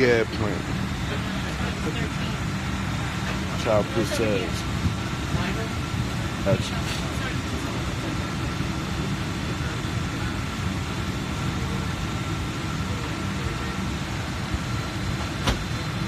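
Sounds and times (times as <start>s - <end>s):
airliner cabin rumble: 0.0s - 16.0s
faint constant whine: 0.0s - 16.0s.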